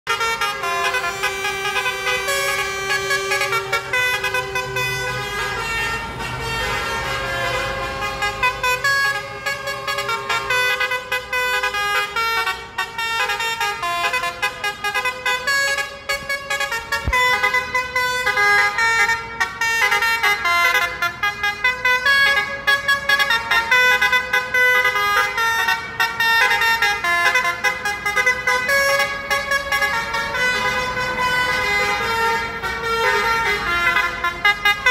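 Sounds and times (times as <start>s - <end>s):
vehicle horns honking: 0.0s - 34.9s.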